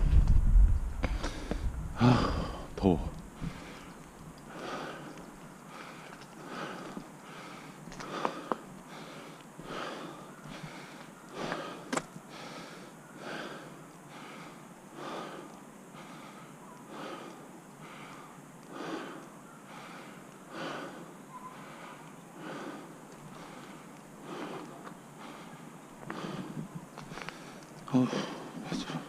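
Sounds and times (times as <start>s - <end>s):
person breathing heavily: 1.0s - 29.0s.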